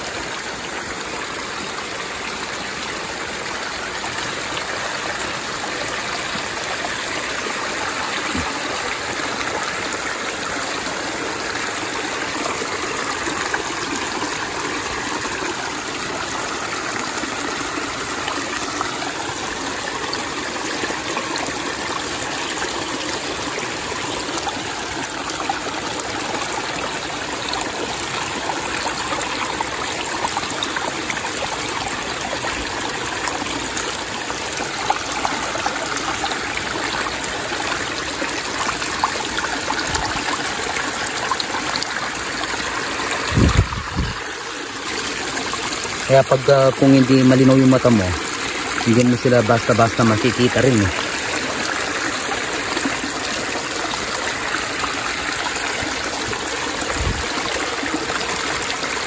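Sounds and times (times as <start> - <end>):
stream running: 0.0 - 59.0.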